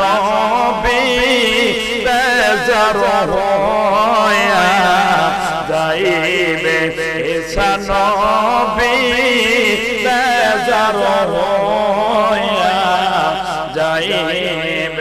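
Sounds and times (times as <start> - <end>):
man chanting devotional verse: 0.0 - 15.0.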